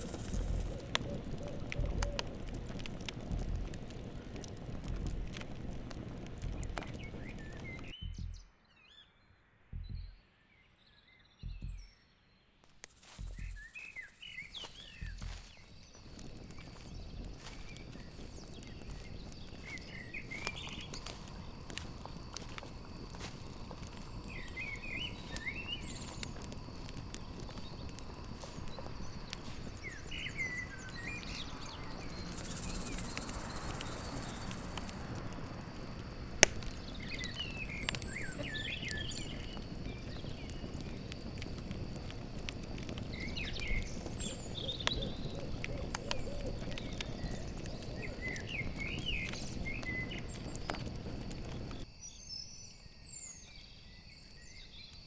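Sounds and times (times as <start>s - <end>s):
bird chirps: 0.0s - 2.3s, 6.4s - 12.1s, 12.9s - 35.2s, 36.6s - 41.0s, 43.1s - 55.0s
crickets trilling: 0.0s - 8.0s, 12.8s - 55.0s
campfire crackling and popping: 0.0s - 8.4s, 9.7s - 10.1s, 12.7s - 51.9s.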